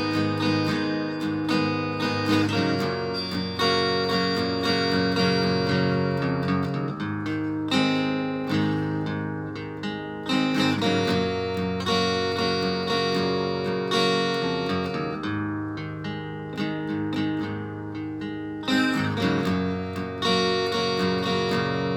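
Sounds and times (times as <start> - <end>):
distorted guitar chords strummed: 0.0 - 21.9.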